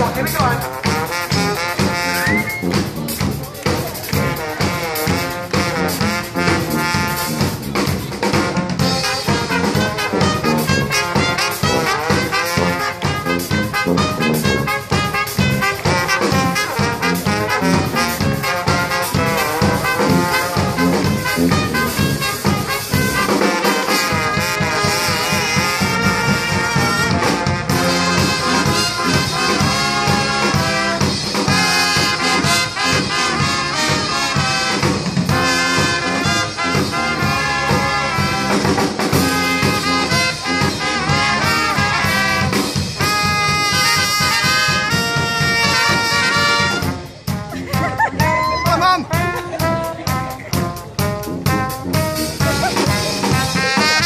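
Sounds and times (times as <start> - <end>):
sousaphone bass line: 0.0 - 3.5, 4.1 - 23.4, 24.1 - 54.0
drum kit with bass drum: 0.0 - 54.0
trumpets and trombone: 0.0 - 54.0.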